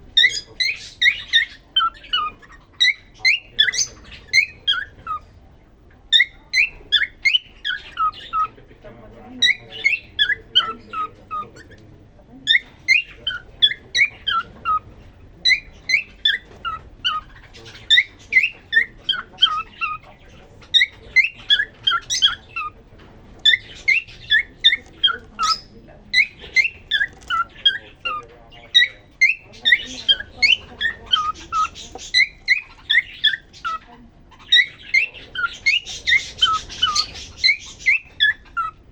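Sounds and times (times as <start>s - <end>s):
cockatiel whistling song: 0.2s - 5.2s, 6.1s - 8.5s, 9.4s - 11.8s, 12.5s - 14.8s, 15.4s - 20.0s, 20.7s - 22.8s, 23.4s - 38.8s.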